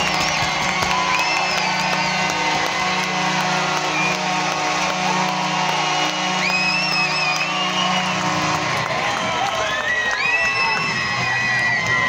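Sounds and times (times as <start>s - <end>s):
goal horn low drone: 0.0s - 10.2s
crowd cheering: 0.0s - 12.0s.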